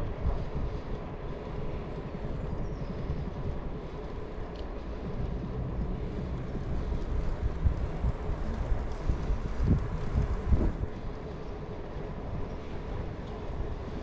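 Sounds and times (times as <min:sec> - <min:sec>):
bicycle rolling: 0:00.0 - 0:14.0
wind buffeting microphone: 0:00.0 - 0:14.0.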